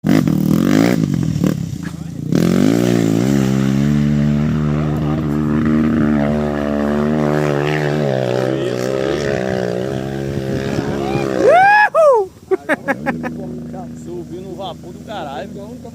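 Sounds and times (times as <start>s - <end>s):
motorcycle engine revving: 0.0s - 11.8s, 12.8s - 15.9s.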